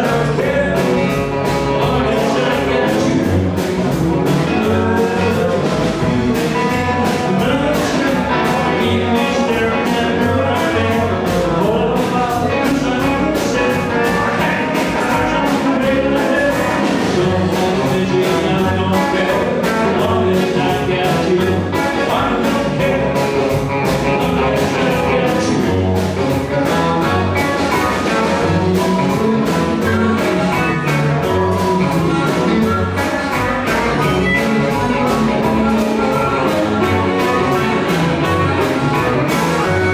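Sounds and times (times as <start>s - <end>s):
blues rock band playing: 0.0s - 39.9s
man singing: 0.0s - 39.9s.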